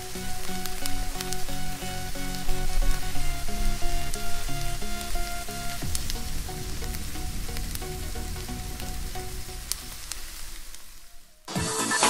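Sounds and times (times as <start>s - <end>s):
quiet background music: 0.0s - 10.5s
food sizzling on hot iron plate: 0.0s - 11.0s.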